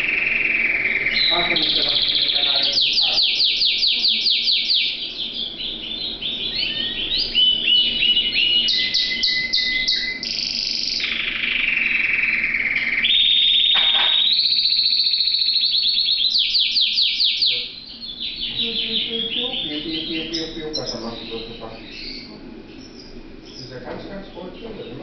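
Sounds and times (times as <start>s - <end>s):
canary singing with trills: 0.0s - 25.0s.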